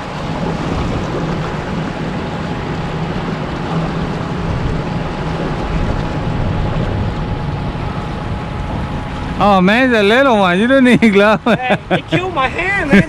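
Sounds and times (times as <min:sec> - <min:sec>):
turbulent river water rushing: 0:00.0 - 0:13.0.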